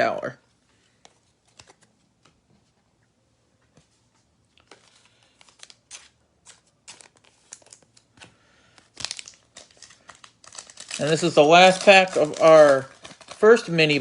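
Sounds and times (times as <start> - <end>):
cards rustling and clicking: 0.7 - 2.7, 4.5 - 14.0.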